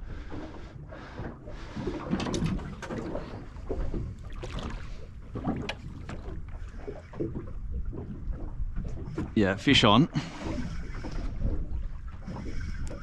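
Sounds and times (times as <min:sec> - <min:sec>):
water slapping against hull: 0:00.0 - 0:13.0.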